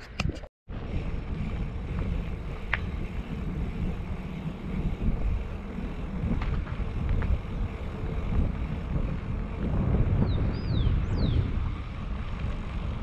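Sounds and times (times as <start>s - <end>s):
wind buffeting microphone: 0.2s - 13.0s
bicycle rolling on asphalt: 0.7s - 13.0s.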